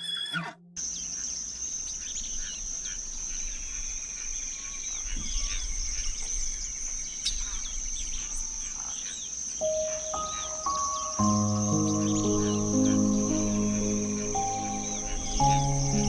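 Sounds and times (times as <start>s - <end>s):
birds chirping: 0.0s - 16.0s
high insect trill: 0.8s - 16.0s.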